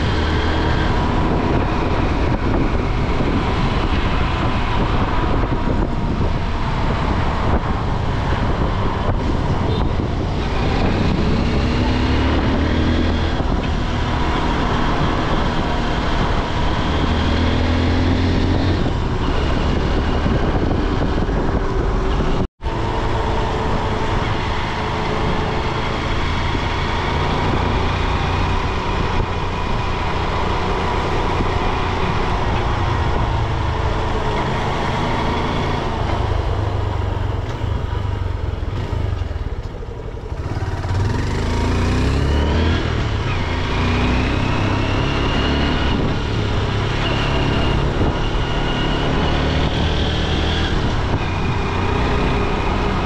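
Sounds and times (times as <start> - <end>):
motorcycle engine revving: 0.0 - 53.0
wind and road noise: 0.0 - 53.0.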